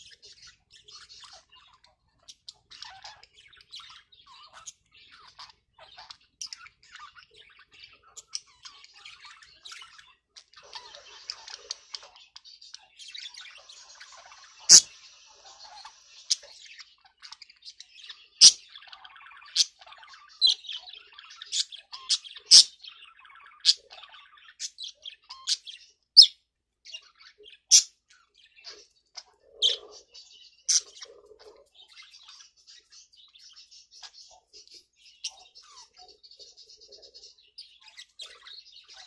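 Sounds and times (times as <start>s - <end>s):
budgerigars chirping: 0.0s - 39.0s
soft twittering chatter: 0.0s - 39.0s.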